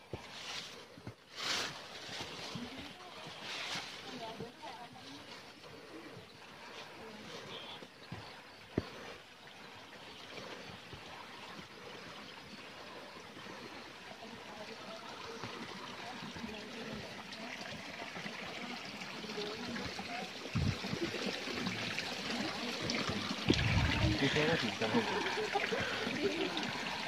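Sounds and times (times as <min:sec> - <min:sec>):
running water rushing: 0:02.5 - 0:27.0.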